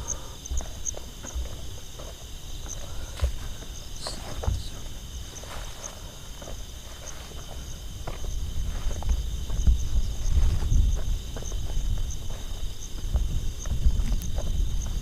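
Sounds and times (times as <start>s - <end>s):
night insects chirping: 0.0s - 15.0s
footsteps: 0.4s - 15.0s.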